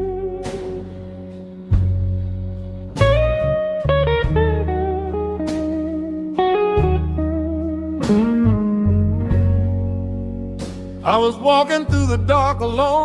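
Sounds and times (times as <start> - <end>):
deep bass line: 0.0 - 13.0
electric guitar lead: 0.0 - 13.0.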